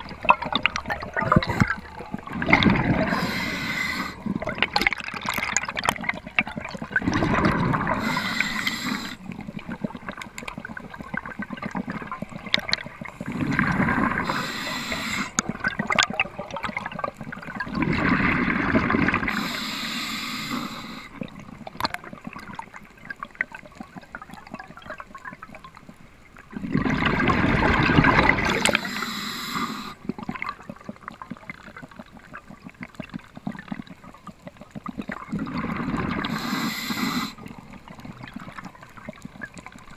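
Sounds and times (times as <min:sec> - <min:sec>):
underwater rushing water: 0:00.0 - 0:39.9.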